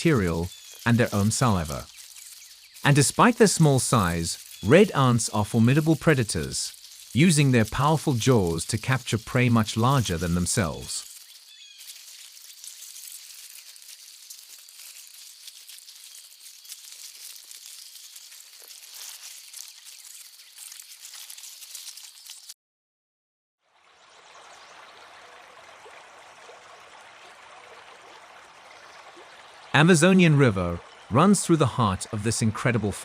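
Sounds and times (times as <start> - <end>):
running water hissing: 0.0 - 22.6, 28.7 - 33.0.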